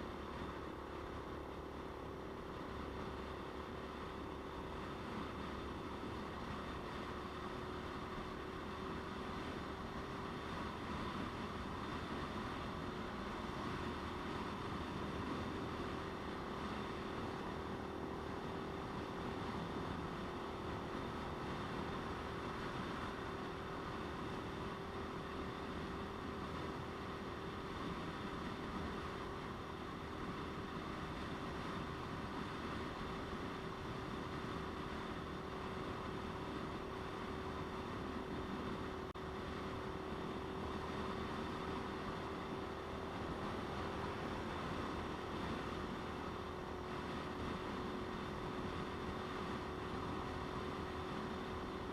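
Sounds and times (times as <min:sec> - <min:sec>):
motorcycle engine running: 0:00.0 - 0:51.9
road and wind rush: 0:00.0 - 0:51.9.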